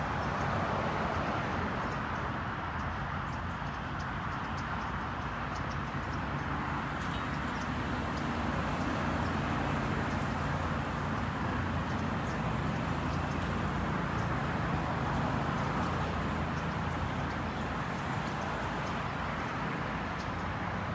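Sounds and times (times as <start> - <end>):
rushing outdoor noise: 0.0 - 20.9.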